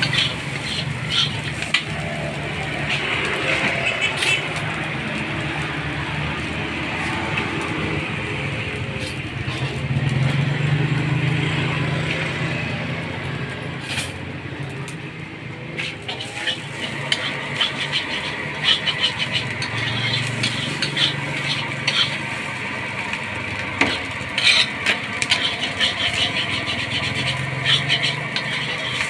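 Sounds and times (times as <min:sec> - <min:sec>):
metal spatula scraping wok: 0:00.0 - 0:07.9, 0:08.9 - 0:09.9, 0:13.3 - 0:29.0.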